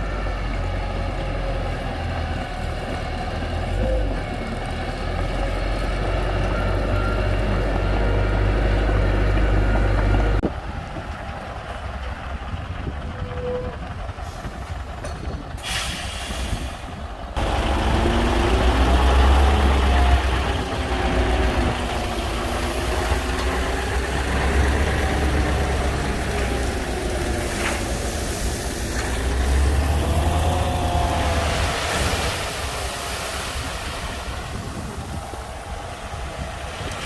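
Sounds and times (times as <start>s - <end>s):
heavy diesel engine working: 0.0s - 37.0s.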